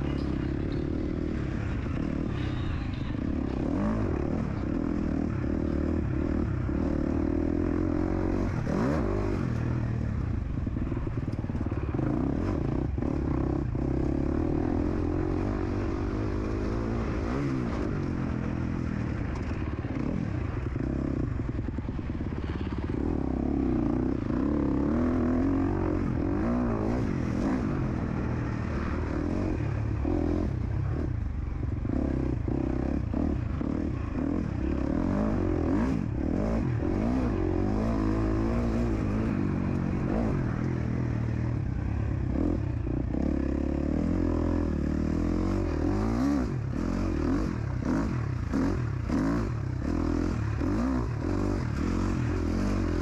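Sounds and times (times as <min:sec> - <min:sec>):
dirt bike engine revving: 0:00.0 - 0:09.9, 0:11.8 - 0:53.0
knocks and rattles over rough track: 0:00.0 - 0:53.0.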